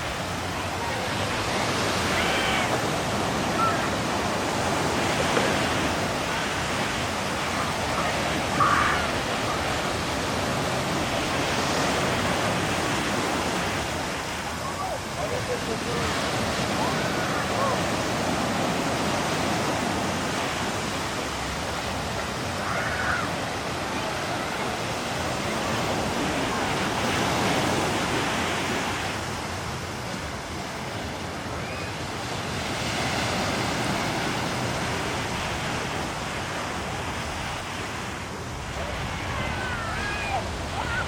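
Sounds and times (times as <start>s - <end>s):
surf washing onto beach: 0.0s - 41.0s.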